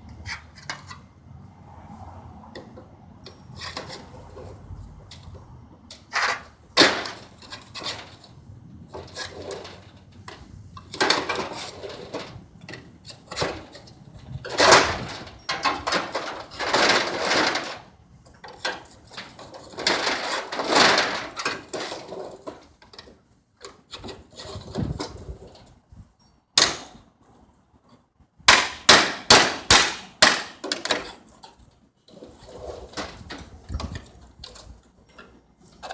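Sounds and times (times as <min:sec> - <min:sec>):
scraping and clattering repair work: 0:00.0 - 0:01.2, 0:02.5 - 0:35.9.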